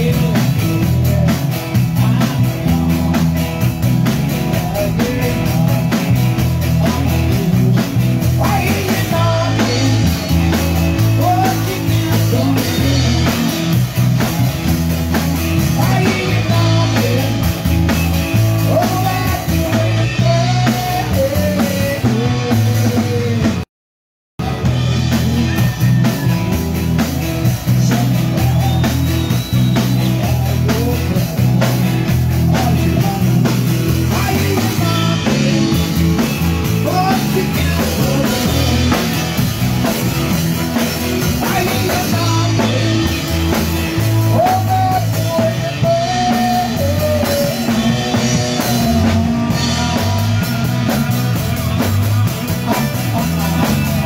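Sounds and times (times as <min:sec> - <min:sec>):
electric guitars: 0:00.0 - 0:23.6, 0:24.4 - 0:54.0
drum kit rock beat: 0:00.0 - 0:23.7, 0:24.4 - 0:54.0.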